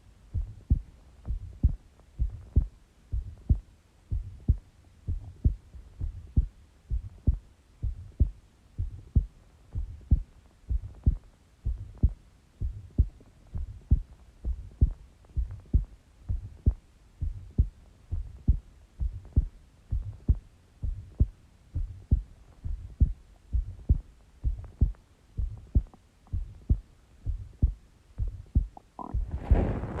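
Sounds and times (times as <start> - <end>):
heartbeat thumps: 0.3 - 30.0.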